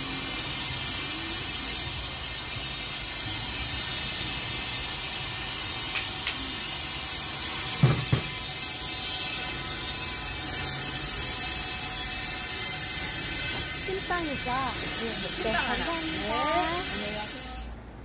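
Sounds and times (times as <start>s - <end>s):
steam hissing: 0.0s - 17.9s.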